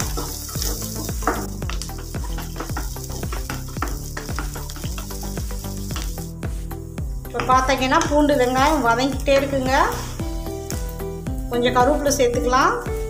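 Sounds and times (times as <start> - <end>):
food sizzling in hot oil: 0.0 - 13.0
soft background music: 0.0 - 13.0.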